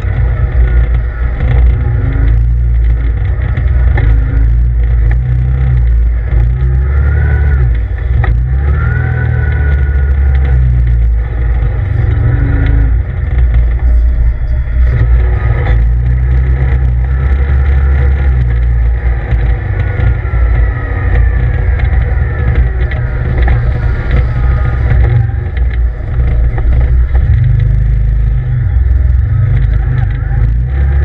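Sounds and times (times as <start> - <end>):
engine droning: 0.0 - 31.0
knocks and rattles: 0.0 - 31.0.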